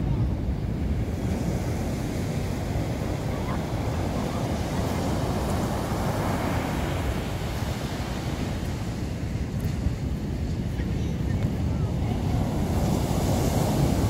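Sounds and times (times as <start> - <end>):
surf breaking on beach: 0.0 - 14.0
wind rumbling on microphone: 0.0 - 14.0.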